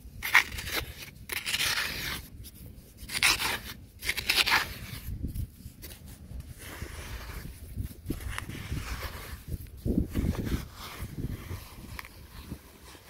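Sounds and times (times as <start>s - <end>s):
hand scraping dry soil: 0.0s - 13.0s.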